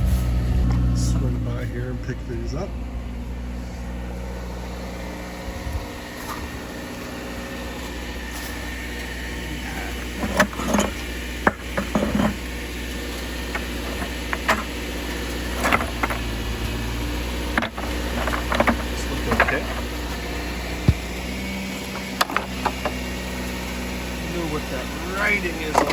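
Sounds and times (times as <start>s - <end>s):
vehicle engine idling: 0.0s - 25.9s.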